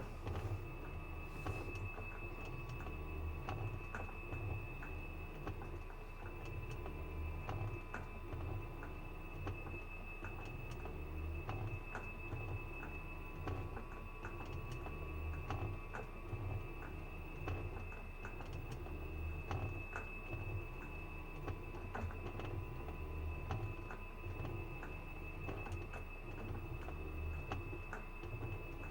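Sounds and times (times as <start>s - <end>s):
washing machine spinning: 0.0s - 28.9s.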